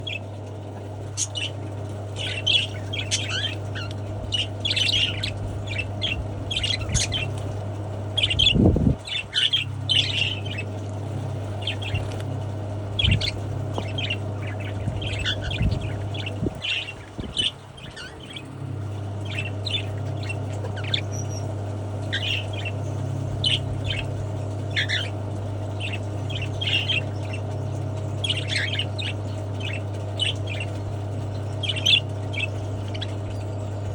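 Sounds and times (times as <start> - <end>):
cockatiels chirping and squawking: 0.0 - 0.3, 1.0 - 10.7, 11.6 - 12.3, 12.9 - 33.9
steady low hum: 0.0 - 33.9.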